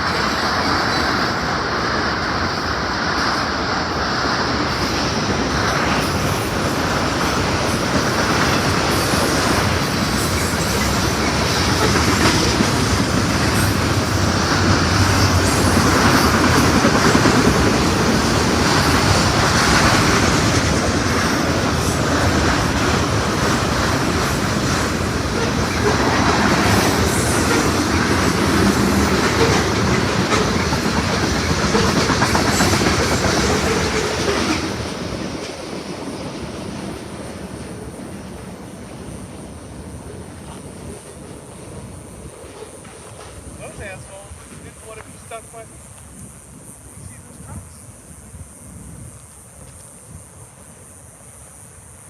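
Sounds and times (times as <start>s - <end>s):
train cars rolling on rails: 0.0s - 52.0s.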